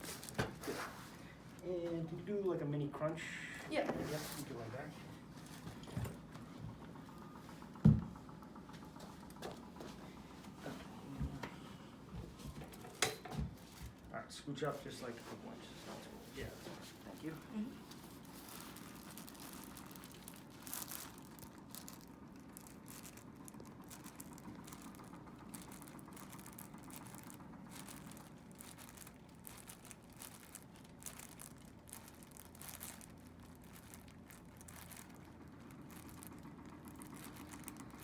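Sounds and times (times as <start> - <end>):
clothing rustling and crinkling: 0.0 - 38.0.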